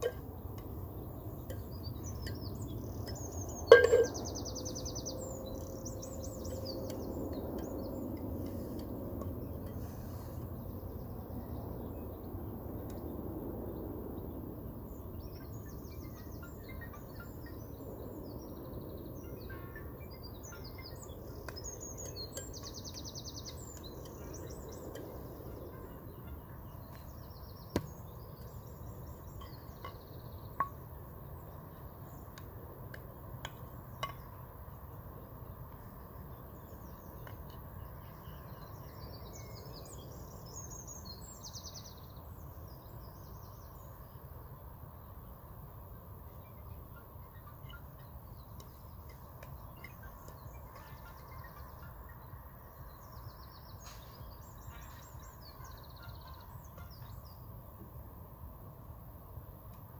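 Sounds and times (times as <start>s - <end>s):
small birds chirping: 0.0s - 57.8s
low background noise: 0.0s - 59.9s.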